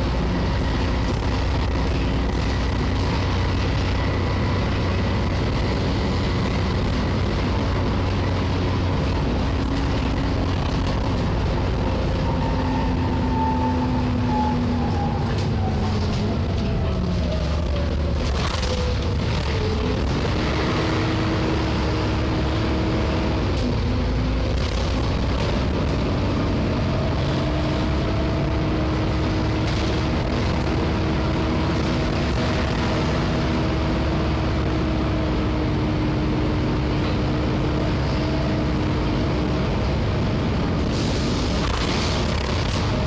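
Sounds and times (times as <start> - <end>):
bus diesel engine rumble and whine: 0.0 - 43.0
road noise: 0.0 - 43.0.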